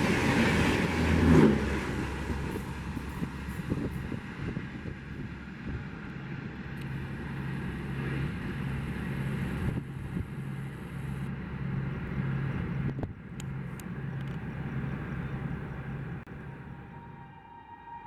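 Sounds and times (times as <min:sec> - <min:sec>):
pulsing low hum: 0:00.0 - 0:18.0
train rumbling on rails: 0:00.0 - 0:18.0.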